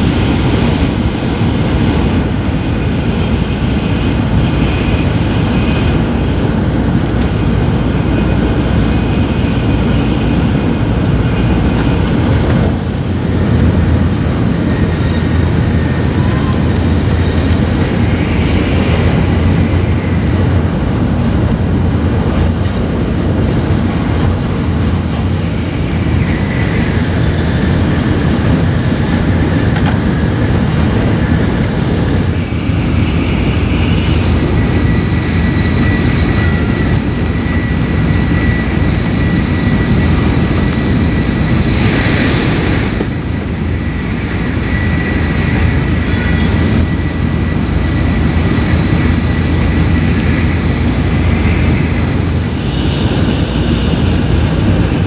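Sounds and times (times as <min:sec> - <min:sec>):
high-speed train running noise: 0:00.0 - 0:55.0.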